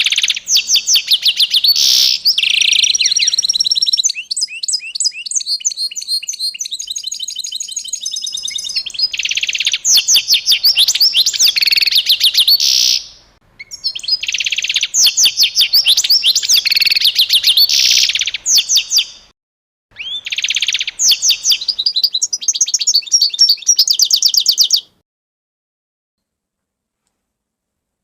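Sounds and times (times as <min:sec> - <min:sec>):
songbird singing chirps and trills: 0:00.0 - 0:19.3, 0:20.0 - 0:25.0.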